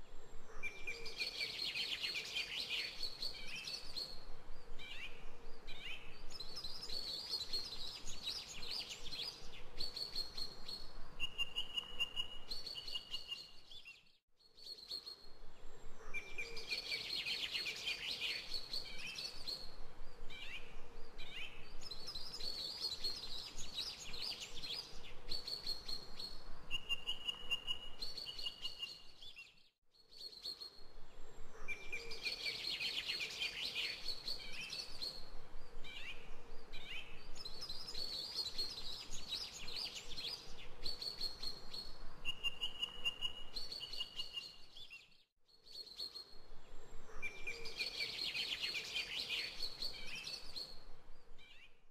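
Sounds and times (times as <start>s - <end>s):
birds chirping and trilling: 0.3s - 51.8s.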